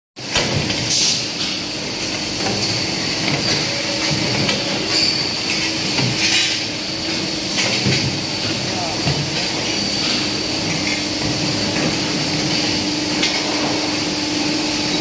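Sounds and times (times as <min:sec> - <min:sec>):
machine clanks and knocks: 0:00.2 - 0:14.1
machine humming: 0:00.2 - 0:15.0.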